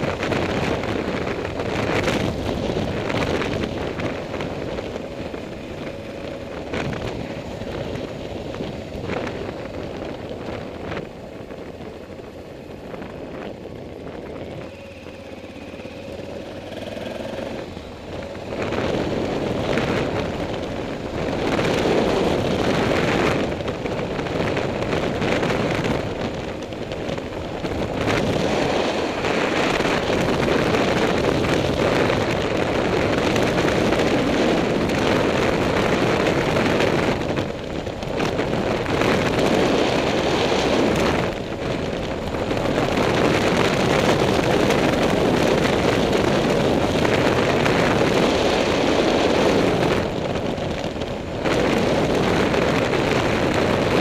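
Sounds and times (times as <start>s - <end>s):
motorcycle engine: 0.0s - 54.0s
road noise: 0.0s - 54.0s
wind rushing over microphone: 0.0s - 54.0s.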